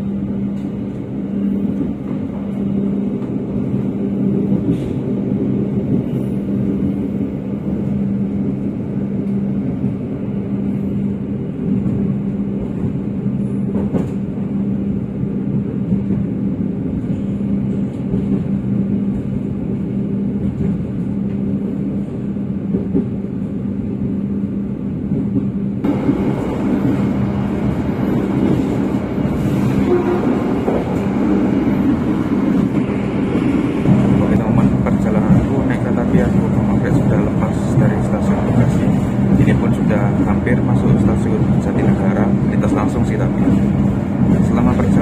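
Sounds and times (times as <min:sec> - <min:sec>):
train rumbling at speed: 0:00.0 - 0:45.0.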